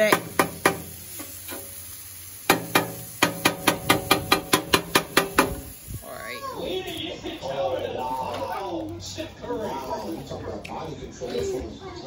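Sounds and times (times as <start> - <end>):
steak sizzling on griddle: 0.0 - 10.1.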